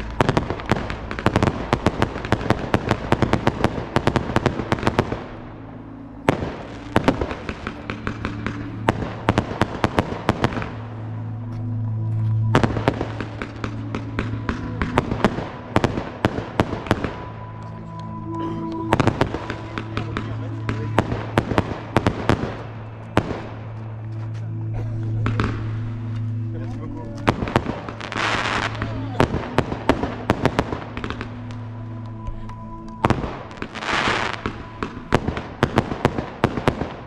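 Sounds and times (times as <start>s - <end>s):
fireworks bangs and crackles: 0.0s - 11.1s, 12.1s - 37.0s
music with low notes: 0.0s - 37.0s.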